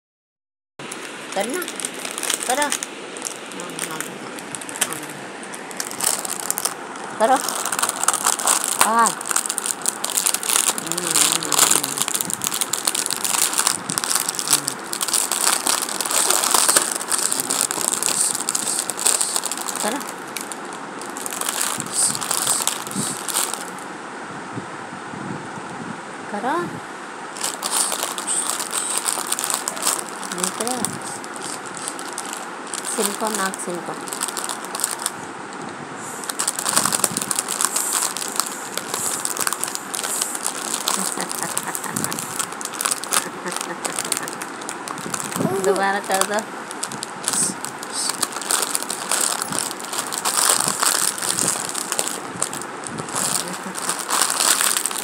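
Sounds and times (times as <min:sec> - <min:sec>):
plastic packaging crinkling: 0:00.8 - 0:23.8, 0:27.4 - 0:55.0.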